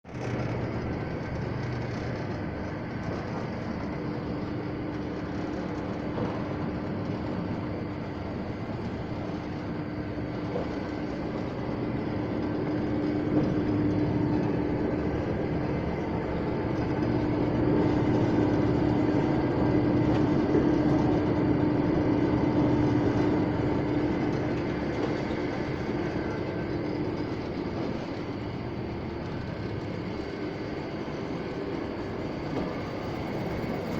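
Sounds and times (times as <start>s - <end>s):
washing machine mechanical hum: 0.0s - 33.9s.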